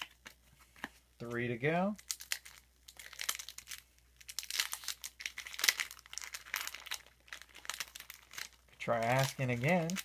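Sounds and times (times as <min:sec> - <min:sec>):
wrapper crinkling: 0:01.9 - 0:10.0.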